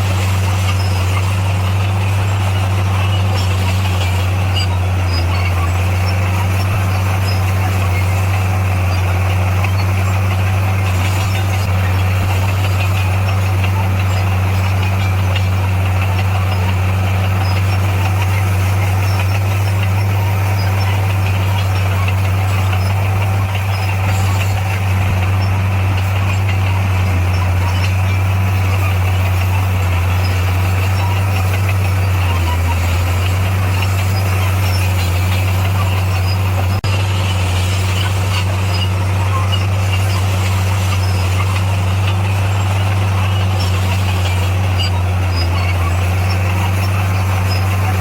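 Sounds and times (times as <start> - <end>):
bulldozer diesel engine running: 0.0 - 48.0.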